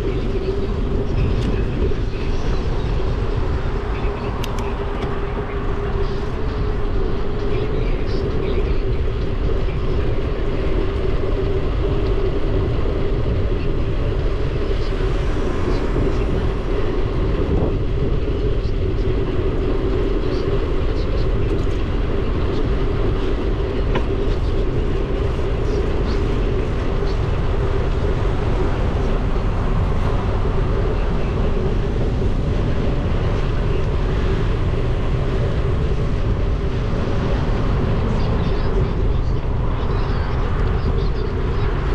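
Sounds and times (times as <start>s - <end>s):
bicycle road noise: 0.0s - 41.9s
wind rumble on microphone: 0.0s - 41.9s.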